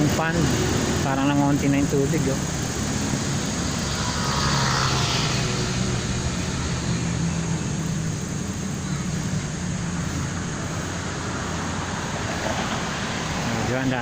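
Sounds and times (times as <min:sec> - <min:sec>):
wind while riding: 0:00.0 - 0:14.0.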